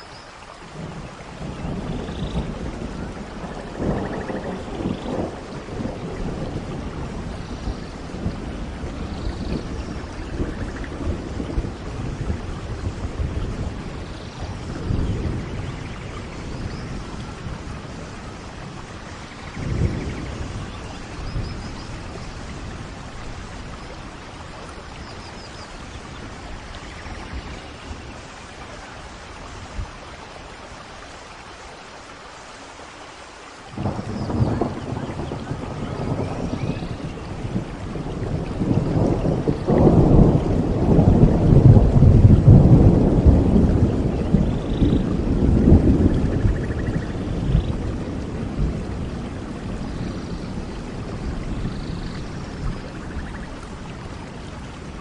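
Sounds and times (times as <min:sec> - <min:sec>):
steady rain falling: 0:00.0 - 0:55.0
thunder rumbling: 0:00.7 - 0:30.8, 0:33.7 - 0:55.0.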